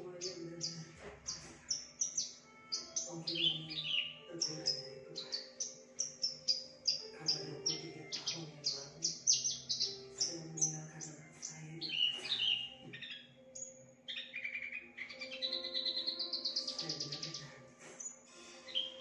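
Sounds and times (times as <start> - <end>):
bird singing high sharp notes: 0.0 - 19.0
bird trill: 0.0 - 19.0.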